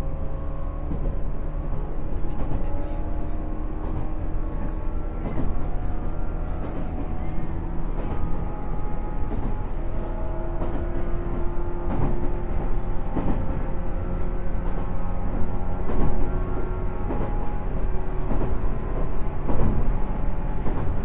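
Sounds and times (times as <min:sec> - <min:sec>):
wheel and rail rumble: 0:00.0 - 0:21.0.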